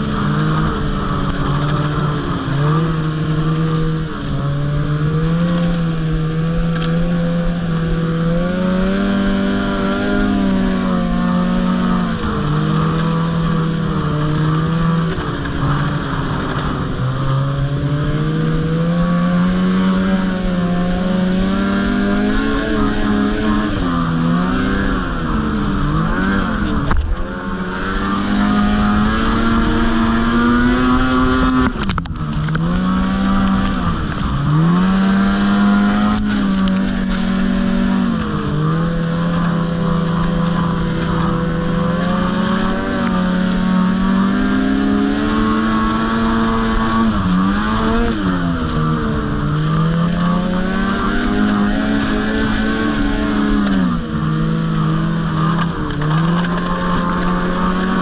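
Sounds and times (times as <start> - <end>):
snowmobile engine running hard: 0.0 - 58.0.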